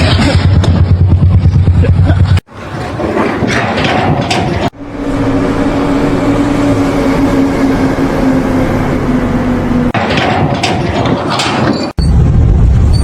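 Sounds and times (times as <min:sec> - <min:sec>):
noisy machinery: 0:00.0 - 0:13.0.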